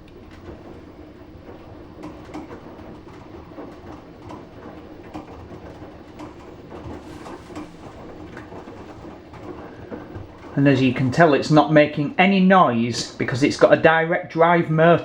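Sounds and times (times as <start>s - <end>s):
washing machine hum: 0.0s - 15.0s
laundry knocks and swishes: 0.3s - 13.3s.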